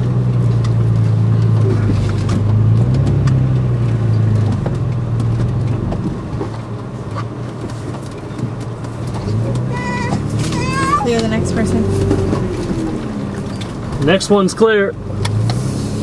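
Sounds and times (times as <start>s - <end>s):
knocks and clicks over rough ground: 0.0s - 15.7s
car engine under load: 0.0s - 16.0s.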